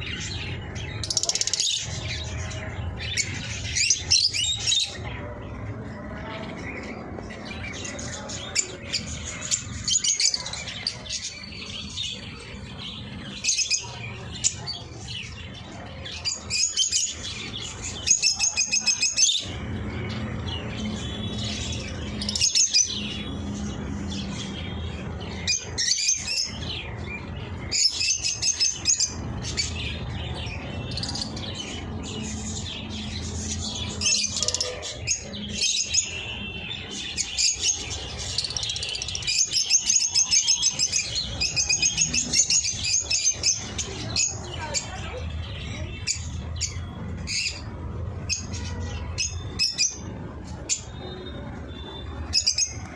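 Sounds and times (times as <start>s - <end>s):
lovebirds chirping: 0.0s - 52.9s.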